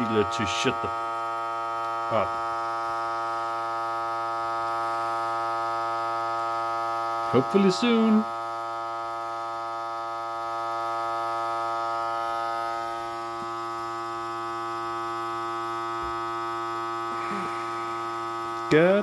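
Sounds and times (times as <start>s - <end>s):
vacuum sealer pump humming: 0.0s - 19.0s.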